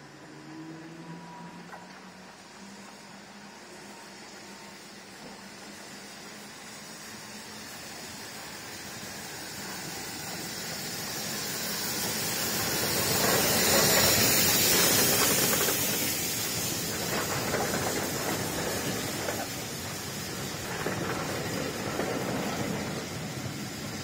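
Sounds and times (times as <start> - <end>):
steam locomotive hiss: 0.0 - 24.0
train coaches rolling: 0.1 - 24.0.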